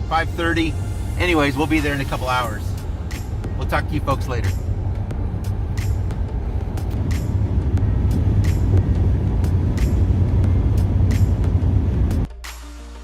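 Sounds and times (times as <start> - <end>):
car road noise rumble: 0.0 - 12.3.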